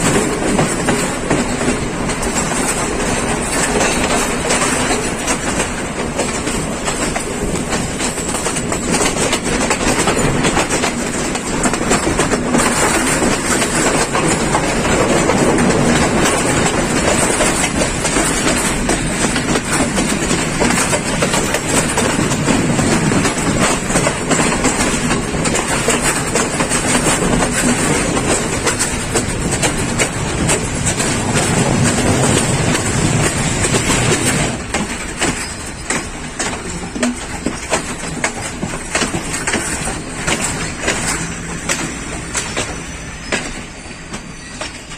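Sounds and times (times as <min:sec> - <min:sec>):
train rumbling on track: 0:00.0 - 0:44.9
wheels clicking over rail joints: 0:00.0 - 0:44.9.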